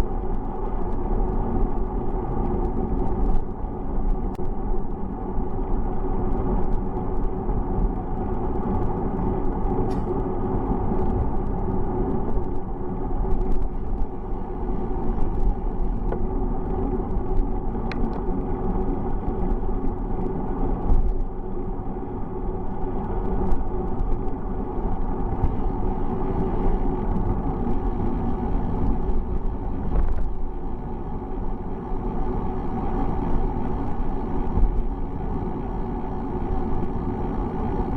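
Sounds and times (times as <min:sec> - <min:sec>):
small clicks and rattles: 0:00.0 - 0:21.9, 0:22.5 - 0:37.9
wind and road noise: 0:00.0 - 0:37.9.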